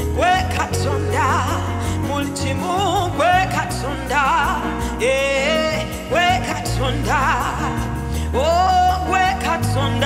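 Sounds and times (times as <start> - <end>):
band with steady bass: 0.0 - 10.0
woman singing with vibrato: 0.0 - 10.0.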